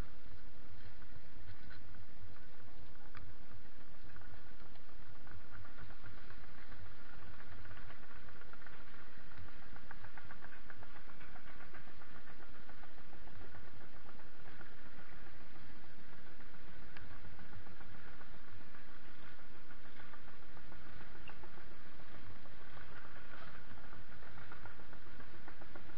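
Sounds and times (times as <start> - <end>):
bike rattling: 0.8 - 25.9.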